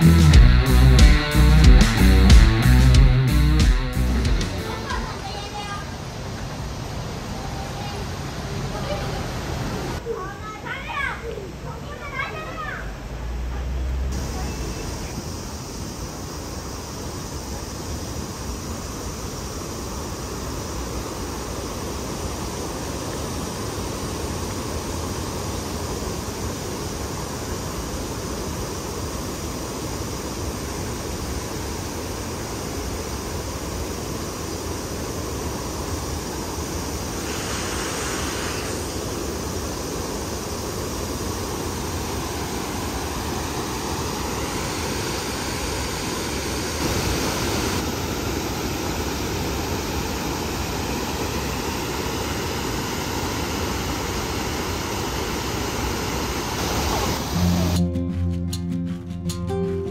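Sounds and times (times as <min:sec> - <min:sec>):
river rushing over rapids: 0:04.6 - 0:57.9.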